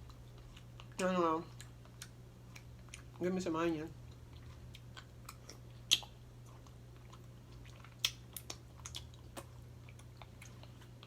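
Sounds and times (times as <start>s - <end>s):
chewing and wet mouth sounds: 0.0s - 11.0s
steady low hum: 0.0s - 11.0s.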